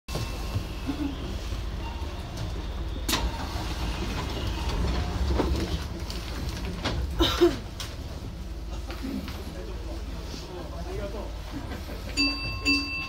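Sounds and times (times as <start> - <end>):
train cab rumble and hum: 0.1 - 13.0.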